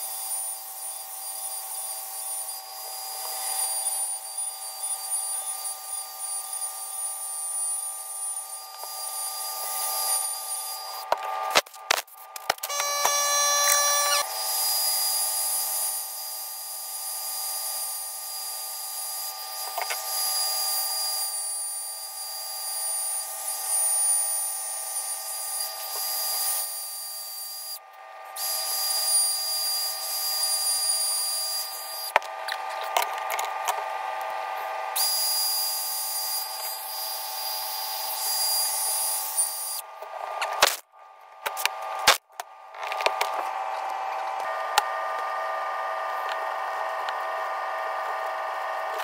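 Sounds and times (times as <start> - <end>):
power tool whining: 0.0 - 40.8.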